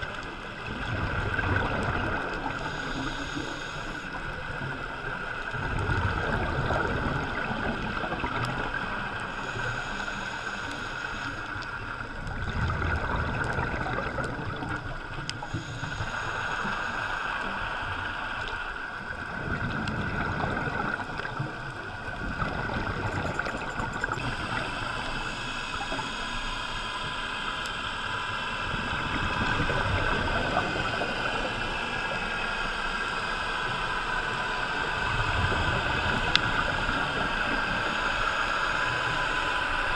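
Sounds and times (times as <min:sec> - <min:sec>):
regulator bubbles rumbling underwater: 0:00.0 - 0:39.9
steady high hum: 0:00.0 - 0:39.9.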